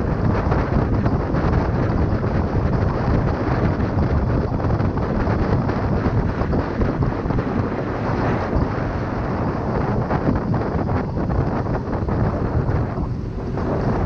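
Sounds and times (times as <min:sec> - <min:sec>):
motorcycle and road noise: 0:00.0 - 0:14.0
wind buffeting microphone: 0:00.0 - 0:14.0.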